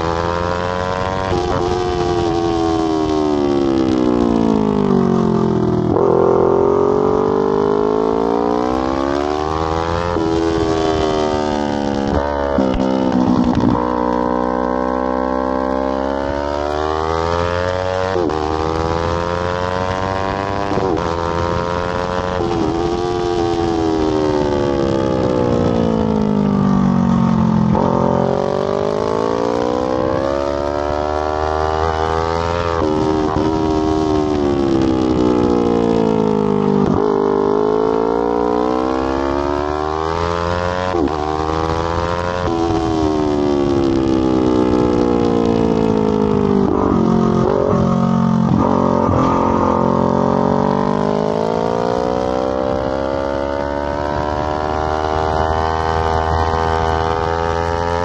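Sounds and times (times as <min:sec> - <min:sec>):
motorcycle engine at speed: 0:00.0 - 0:58.0.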